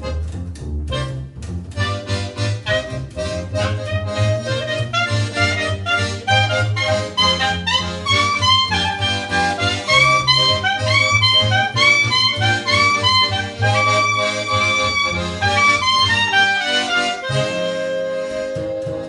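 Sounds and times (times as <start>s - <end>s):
accordion melody: 0.0s - 19.0s
steady bass line: 0.0s - 19.0s.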